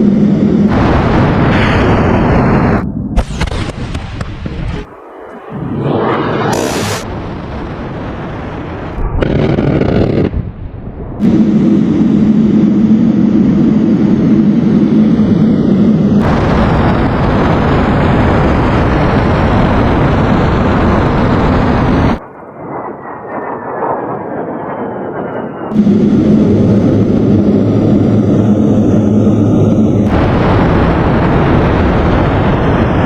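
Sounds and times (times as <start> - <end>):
explosive roar: 0.0 - 22.2, 25.7 - 33.0
heavy low rumble: 0.0 - 23.5, 25.7 - 33.0.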